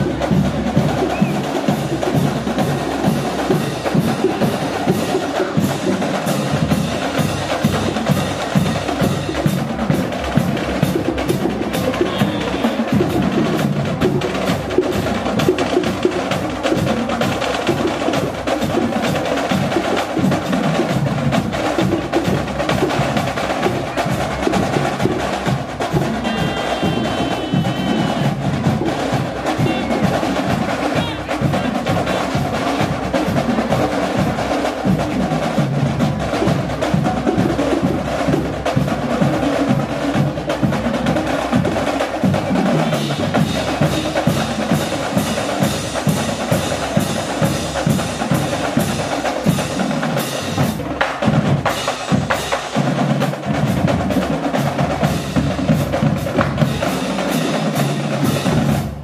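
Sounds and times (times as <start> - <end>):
snare and bass drums: 0.0 - 59.0
wind instruments: 0.0 - 59.0.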